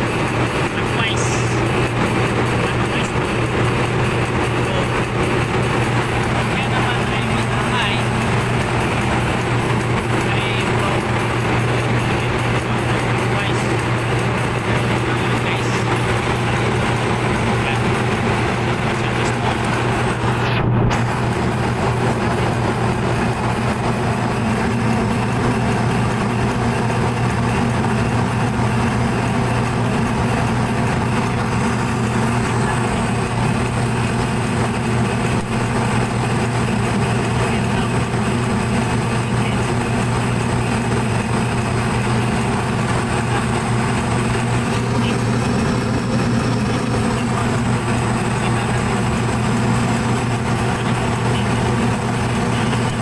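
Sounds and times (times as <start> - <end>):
ship machinery drone: 0.0 - 53.0
thin high whine: 0.0 - 53.0.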